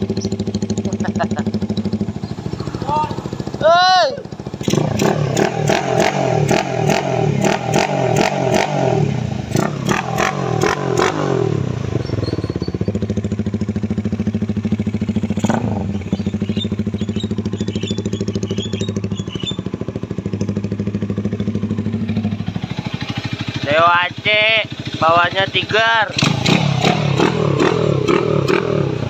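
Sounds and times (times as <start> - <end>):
motorcycle engine revving and idling: 0.0 - 29.0.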